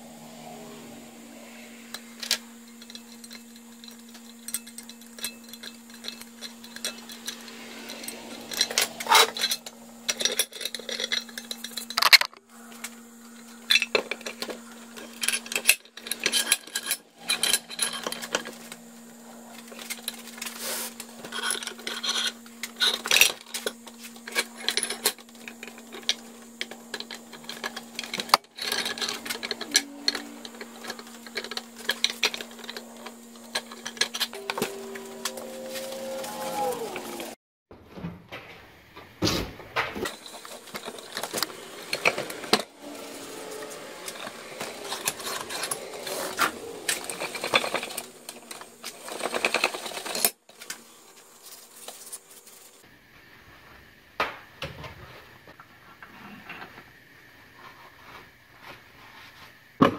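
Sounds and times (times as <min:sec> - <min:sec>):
steady low hum: 0:00.0 - 0:37.4, 0:38.7 - 0:59.8.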